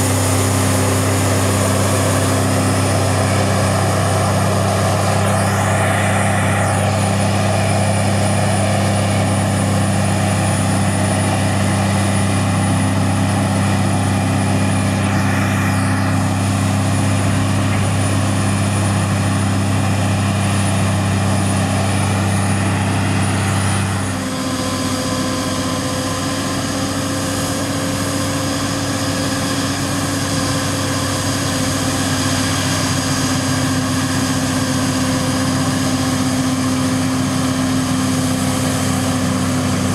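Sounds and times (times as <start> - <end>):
forage harvester drone: 0.0 - 39.9
tractor engine drone: 0.0 - 39.9.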